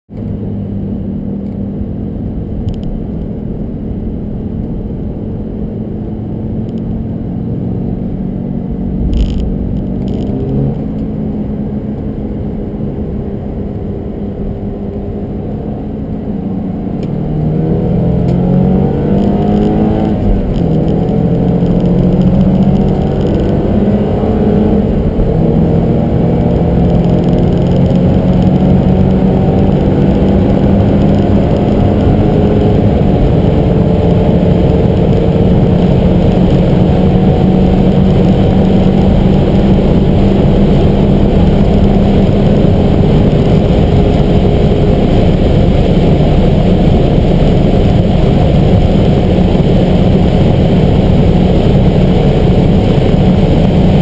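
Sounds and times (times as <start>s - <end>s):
car engine accelerating: 0.1s - 54.0s.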